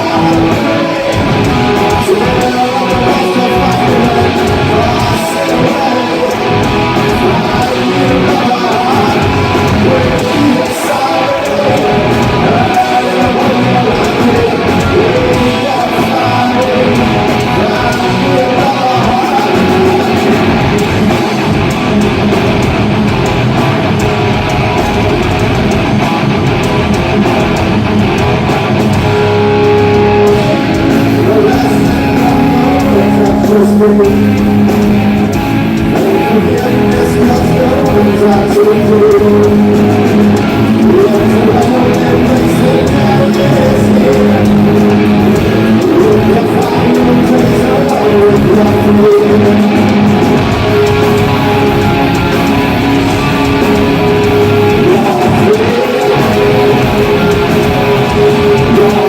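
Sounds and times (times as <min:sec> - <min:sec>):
drum kit: 0:00.0 - 0:59.0
electric guitar riffs: 0:00.0 - 0:59.0.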